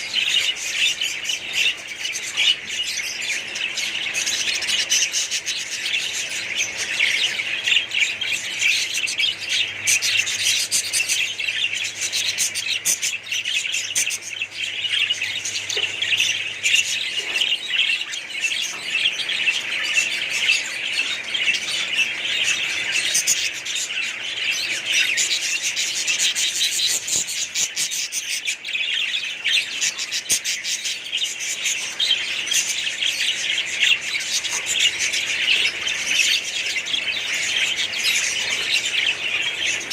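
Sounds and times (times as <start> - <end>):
small parrots twittering: 0.0 - 39.9.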